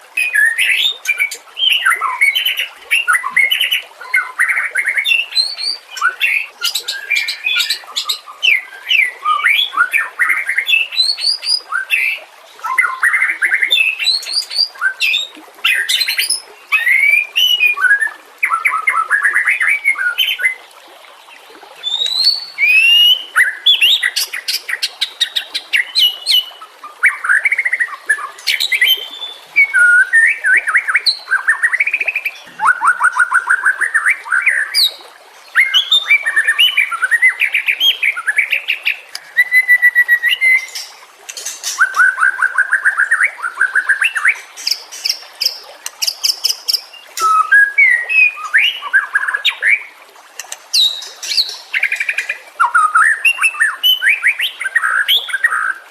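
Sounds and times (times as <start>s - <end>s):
bird singing whistles and trills: 0.2s - 20.6s, 21.8s - 49.9s, 50.7s - 55.8s.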